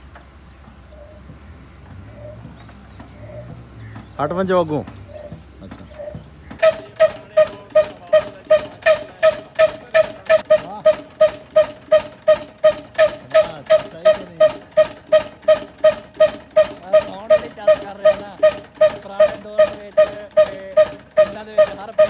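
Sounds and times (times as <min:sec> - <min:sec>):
stationary engine exhaust pops: 0:00.0 - 0:22.0.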